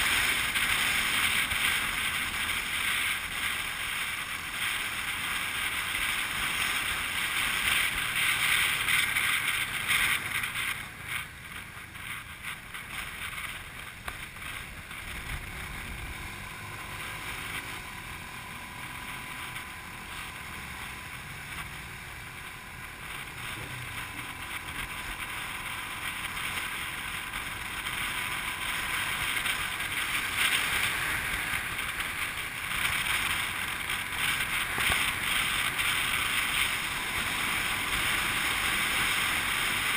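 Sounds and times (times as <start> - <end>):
wind and road noise on motorbike: 0.0 - 39.9.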